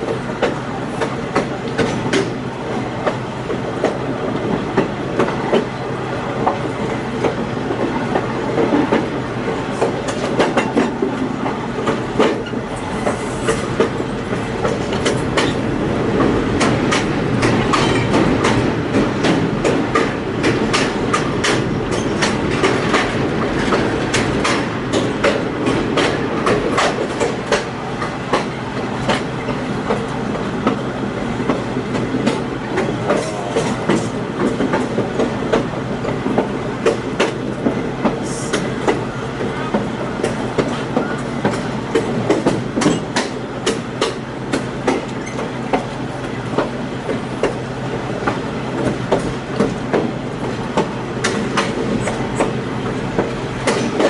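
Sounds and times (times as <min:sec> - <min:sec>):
railroad car rumbling: 0:00.0 - 0:54.0
wheels clicking over rail joints: 0:09.8 - 0:54.0.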